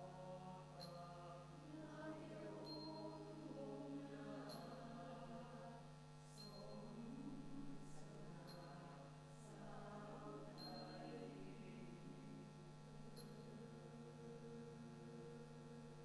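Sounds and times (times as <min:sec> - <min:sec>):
mixed choir singing: 0:00.0 - 0:12.6, 0:13.2 - 0:15.5.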